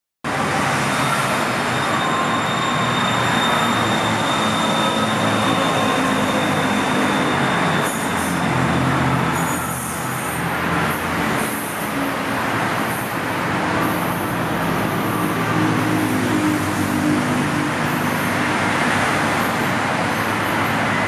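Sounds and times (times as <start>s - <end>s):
electric train running: 0.4s - 21.0s.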